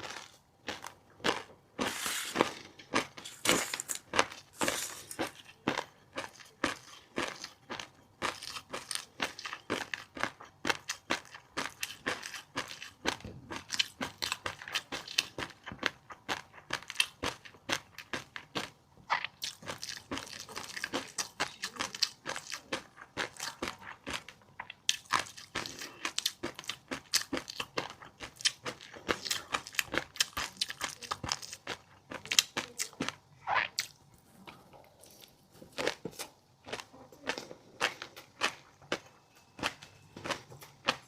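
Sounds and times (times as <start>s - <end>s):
crunchy chewing: 0.0s - 41.0s.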